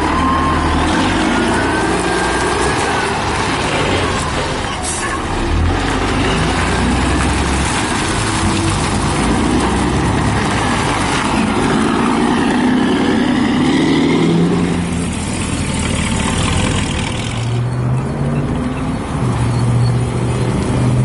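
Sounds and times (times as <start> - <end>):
truck engine accelerating: 0.0 - 21.0
trucks driving past: 0.0 - 21.0.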